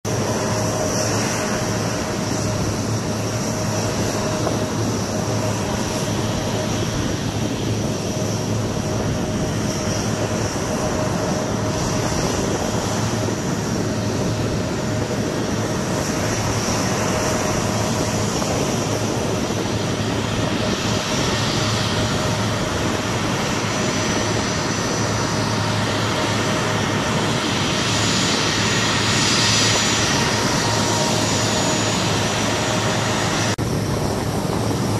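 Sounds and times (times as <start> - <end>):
jet engine rush with whine: 0.0 - 34.9.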